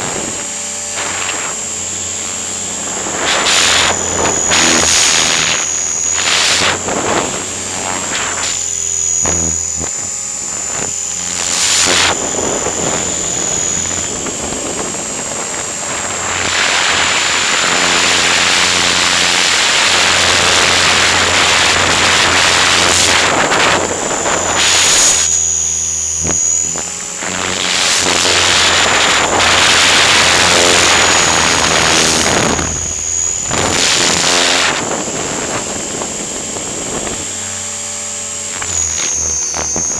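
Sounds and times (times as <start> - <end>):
rc helicopter whine and drone: 0.0 - 39.9
wind rushing on microphone: 0.0 - 39.9.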